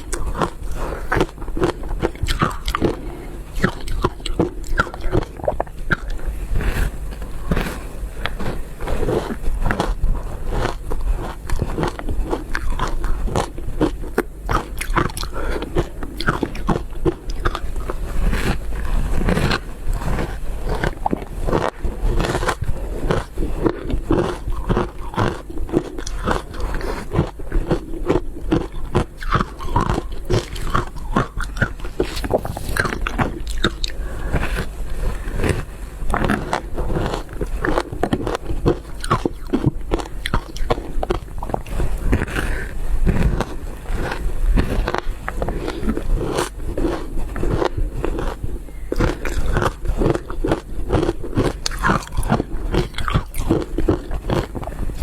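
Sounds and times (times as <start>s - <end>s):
ice crunching while chewed: 0.0s - 55.0s
low steady hum: 0.0s - 55.0s.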